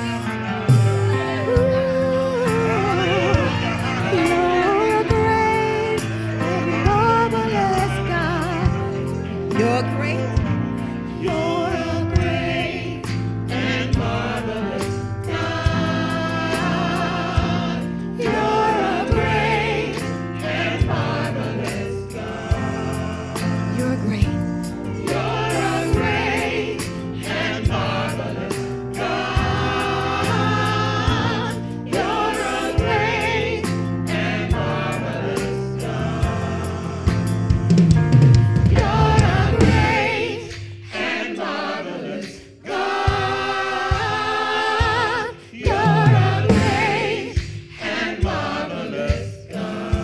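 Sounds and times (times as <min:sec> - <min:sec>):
group singing gospel: 0:00.0 - 0:50.0
keyboard accompaniment: 0:00.0 - 0:50.0.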